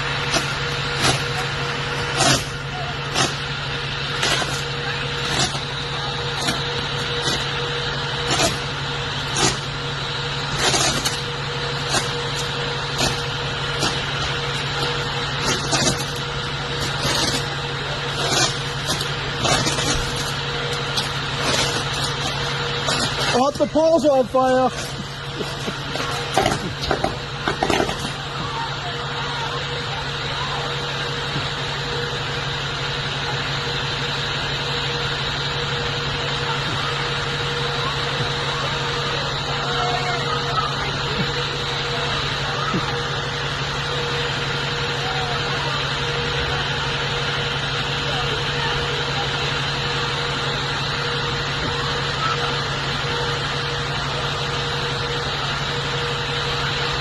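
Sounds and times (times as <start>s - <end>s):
electrical hum: 0.0s - 57.0s
power lines crackling: 0.0s - 57.0s.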